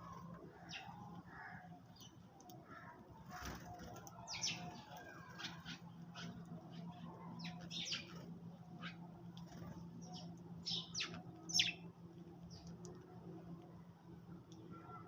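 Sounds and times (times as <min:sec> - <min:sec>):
sparrows chirping: 0:00.0 - 0:13.4.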